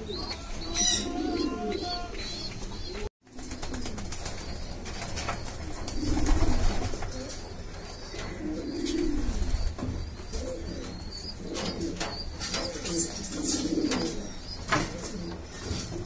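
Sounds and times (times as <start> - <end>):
pigeons cooing: 0.0 - 4.1, 5.1 - 16.0.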